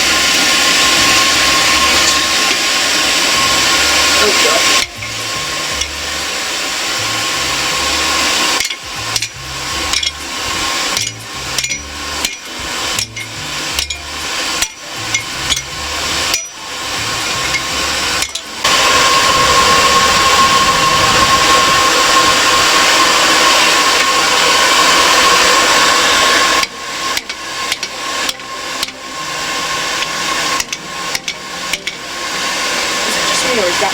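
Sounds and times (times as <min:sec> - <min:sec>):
hammer striking hot steel: 0:00.0 - 0:33.9
steady rushing noise with whine: 0:00.0 - 0:33.9.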